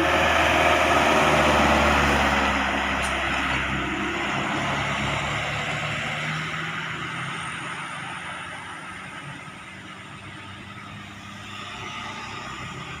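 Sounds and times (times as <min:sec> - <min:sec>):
approaching traffic: 0:00.0 - 0:13.0
heavy vehicle passing: 0:00.0 - 0:13.0.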